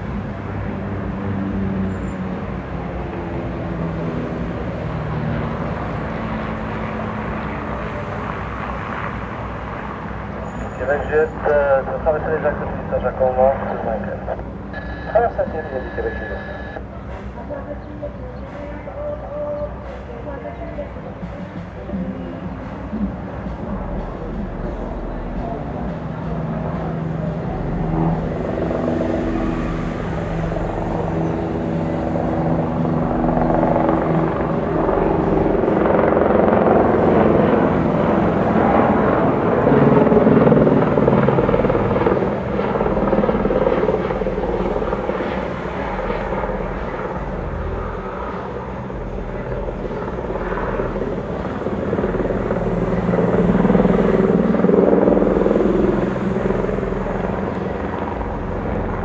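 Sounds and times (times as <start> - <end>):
helicopter rotor and engine: 0.0 - 59.0
propeller airplane engines droning: 0.0 - 59.0.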